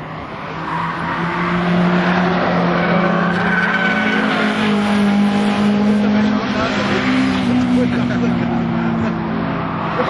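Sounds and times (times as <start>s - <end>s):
race car passing by: 0.2s - 10.0s.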